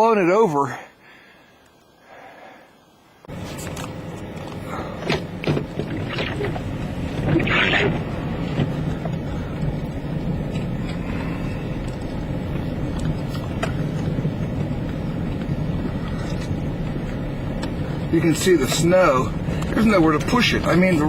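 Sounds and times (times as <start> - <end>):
vehicle low rumble: 3.2 - 21.0.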